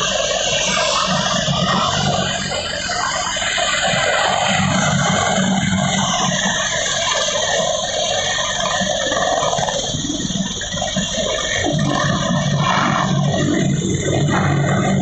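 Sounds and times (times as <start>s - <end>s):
helicopter turbine and rotor noise: 0.0s - 15.0s.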